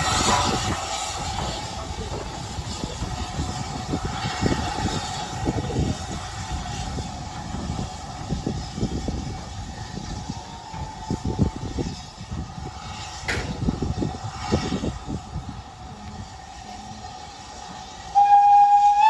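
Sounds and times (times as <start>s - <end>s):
train hum: 0.0s - 19.0s
wind buffeting microphone: 0.0s - 19.0s.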